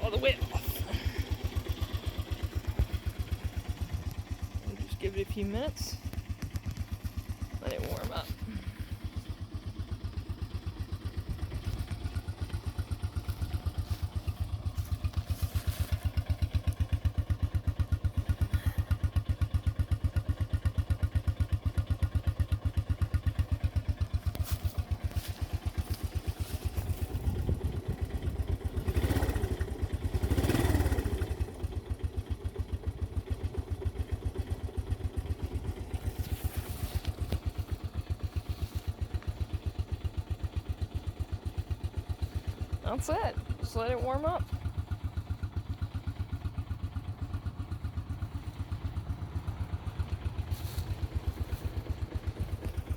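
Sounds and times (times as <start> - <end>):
quad bike engine idling: 0.0 - 52.9.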